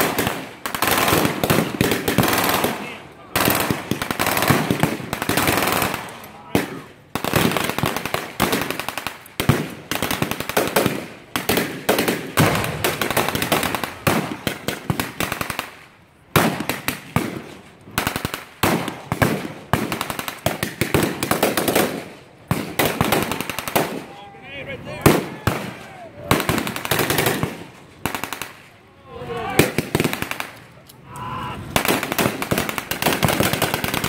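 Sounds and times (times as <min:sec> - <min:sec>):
blank gunfire bursts: 0:00.0 - 0:24.1, 0:25.0 - 0:28.7, 0:29.6 - 0:30.6, 0:31.7 - 0:34.0.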